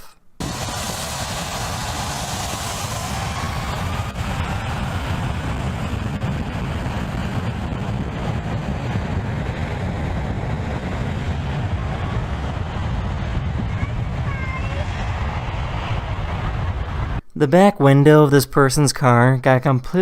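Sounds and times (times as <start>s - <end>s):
airplane engine spooling up: 0.4s - 17.2s
wind buffeting microphone: 0.4s - 17.2s.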